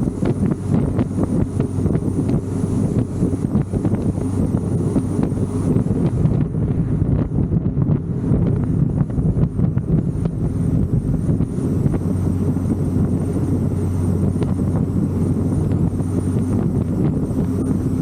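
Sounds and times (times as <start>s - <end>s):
car engine deep choppy exhaust: 0.0s - 18.0s
wind buffeting microphone: 0.0s - 18.0s.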